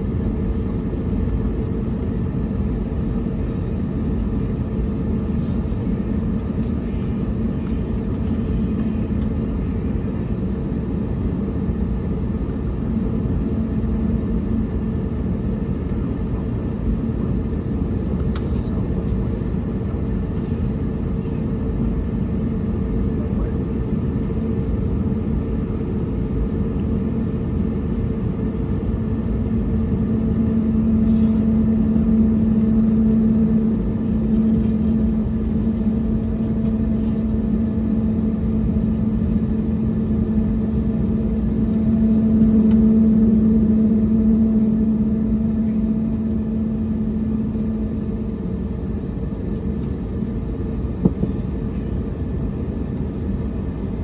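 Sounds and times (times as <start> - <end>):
jet engines idling in cabin: 0.0 - 54.0.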